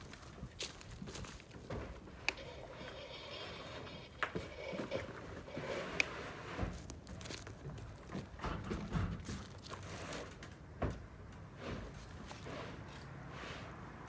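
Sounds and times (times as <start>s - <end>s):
rustling and crinkling: 0.0s - 13.8s.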